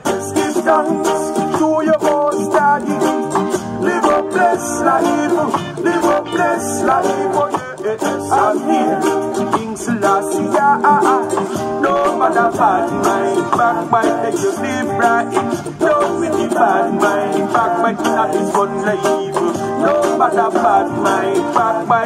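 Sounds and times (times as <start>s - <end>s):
reggae recording with man singing: 0.0s - 22.0s
ukulele strumming: 0.0s - 22.0s.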